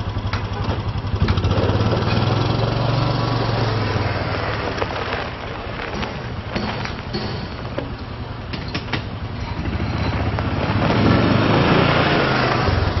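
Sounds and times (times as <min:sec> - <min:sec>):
utility vehicle engine running: 0:00.0 - 0:13.0
tyres crunching on gravel: 0:01.2 - 0:13.0.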